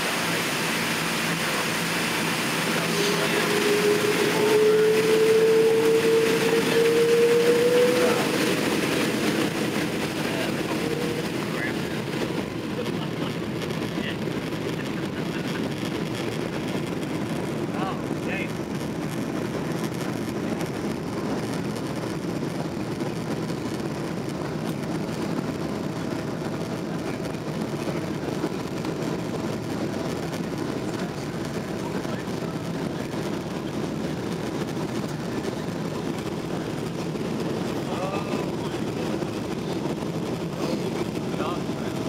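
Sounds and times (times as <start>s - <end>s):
jet engines roaring: 0.0s - 42.0s
rushing air: 0.0s - 42.0s.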